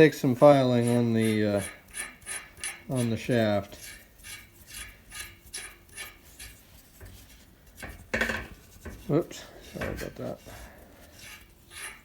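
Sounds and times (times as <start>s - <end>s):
metal scraping on metal: 0.5s - 12.0s.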